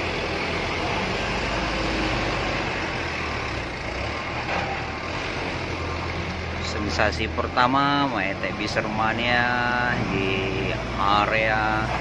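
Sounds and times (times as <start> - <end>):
diesel engines rumbling: 0.0 - 12.0
road noise: 0.0 - 12.0.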